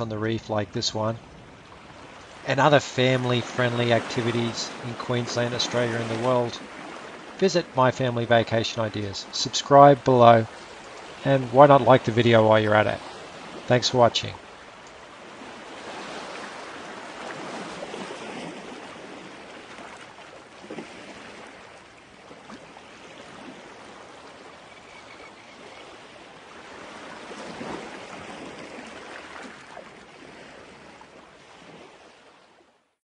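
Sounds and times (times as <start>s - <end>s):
sea water washing: 0.0s - 32.6s
wind: 0.0s - 33.0s.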